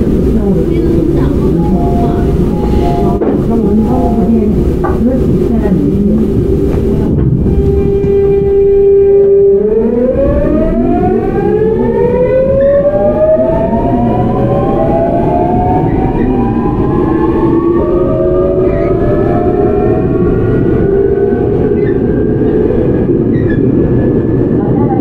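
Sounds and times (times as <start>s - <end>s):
train inverter whine rising: 0.0s - 24.6s
train running noise: 0.0s - 25.0s.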